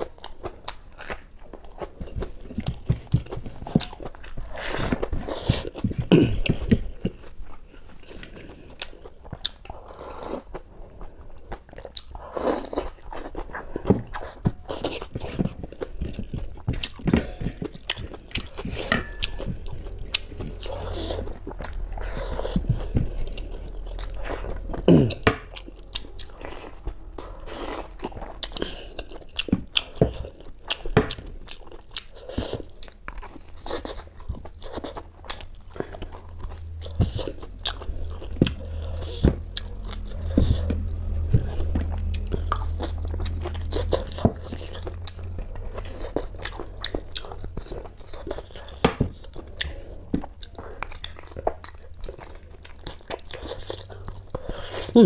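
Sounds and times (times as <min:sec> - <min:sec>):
person chewing: 0:00.0 - 0:55.0
steady low hum: 0:01.4 - 0:55.0.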